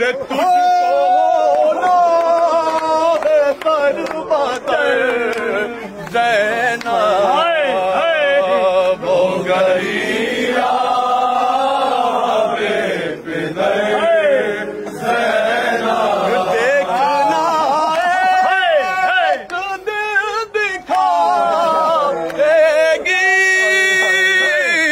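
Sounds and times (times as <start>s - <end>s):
man chanting lament: 0.0s - 9.9s, 13.6s - 24.9s.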